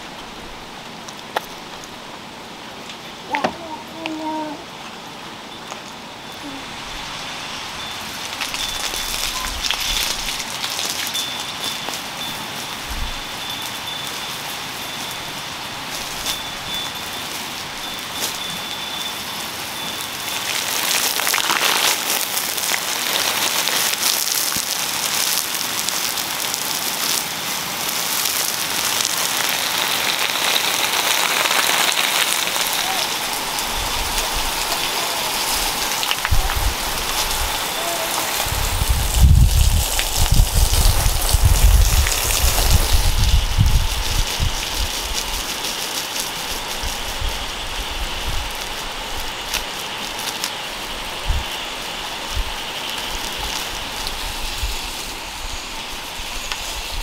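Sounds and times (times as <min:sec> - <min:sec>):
hose water spraying onto soil: 0:05.7 - 0:57.0.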